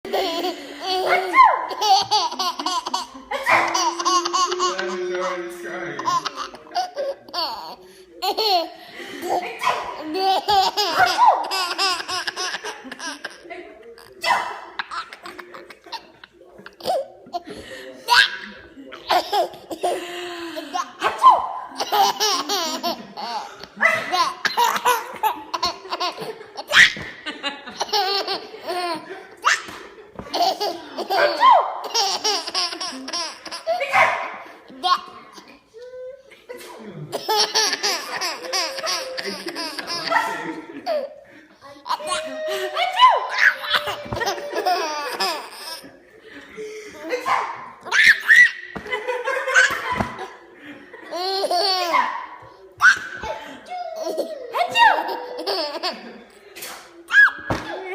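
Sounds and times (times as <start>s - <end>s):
baby laughing: 0.0s - 20.1s, 20.7s - 35.6s, 37.1s - 46.0s, 47.1s - 50.3s, 51.0s - 57.6s.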